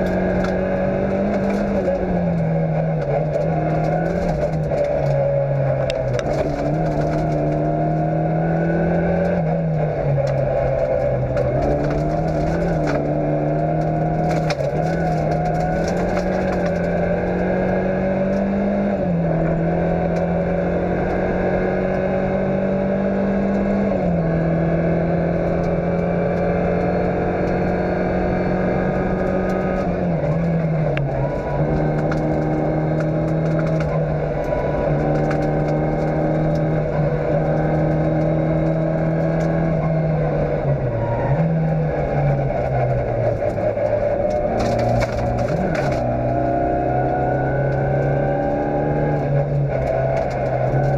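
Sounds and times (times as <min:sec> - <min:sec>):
rally car engine from inside: 0:00.0 - 0:50.9.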